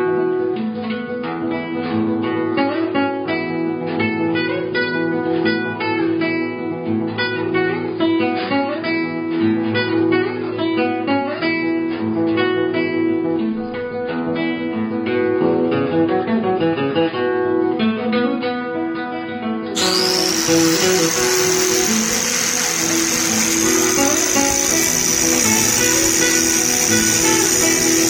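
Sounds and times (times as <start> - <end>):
plucked guitar notes: 0.0 - 28.0.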